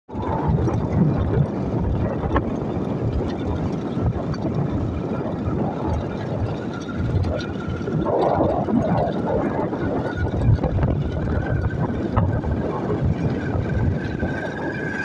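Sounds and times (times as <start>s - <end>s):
motorcycle engine running: 0.4s - 15.0s.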